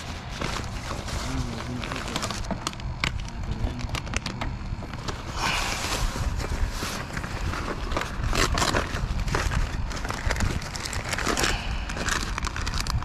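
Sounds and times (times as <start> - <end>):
low rumble: 0.0 - 13.0
plastic packaging rustling: 0.0 - 13.0.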